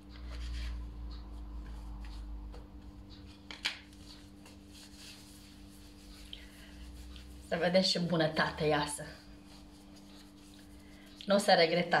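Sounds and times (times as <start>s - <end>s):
steady low hum: 0.0s - 12.0s
hands rubbing dough on plastic: 0.1s - 12.0s.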